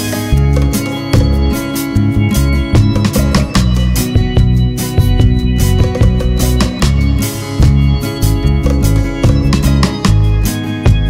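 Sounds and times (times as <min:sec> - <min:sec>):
guitar music over a beat: 0:00.0 - 0:11.0.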